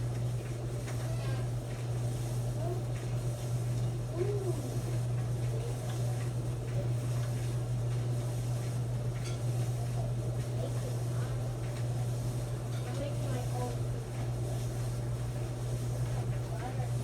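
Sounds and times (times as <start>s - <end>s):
clothes dryer humming: 0.0s - 17.0s.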